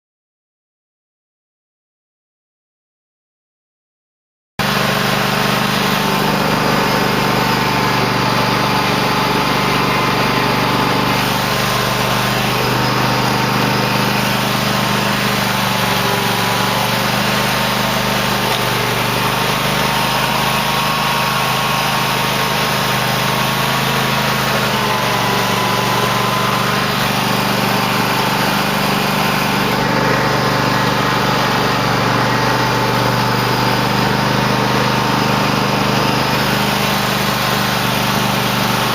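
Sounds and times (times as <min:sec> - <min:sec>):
lawn tractor engine running: 0:04.6 - 0:38.9.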